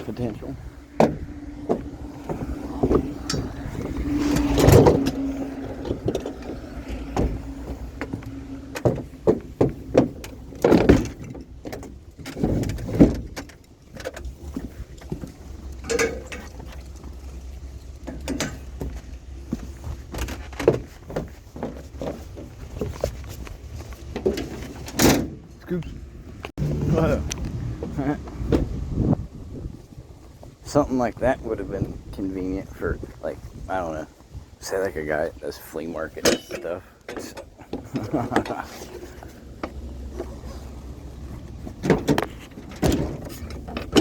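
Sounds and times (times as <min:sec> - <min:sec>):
low steady rumble: 0:00.0 - 0:21.5, 0:25.4 - 0:44.0
junk knocking and clunking: 0:00.0 - 0:30.6, 0:35.8 - 0:44.0.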